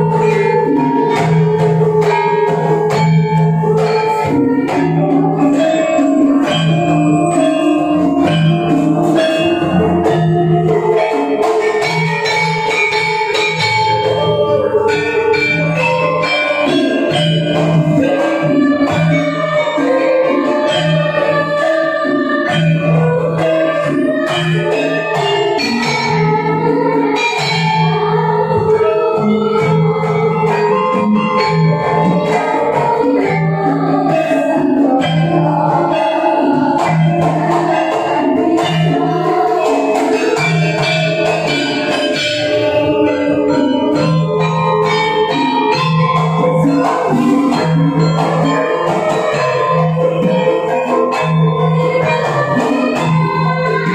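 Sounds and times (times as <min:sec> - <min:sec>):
children singing: 0:00.0 - 0:53.9
hand drumming: 0:00.0 - 0:53.9
metallophones and gongs ringing: 0:00.0 - 0:53.9.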